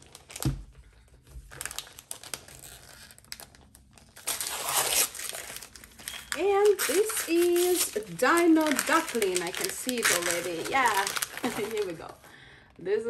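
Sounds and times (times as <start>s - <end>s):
paper crinkling and tearing: 0.0s - 12.3s.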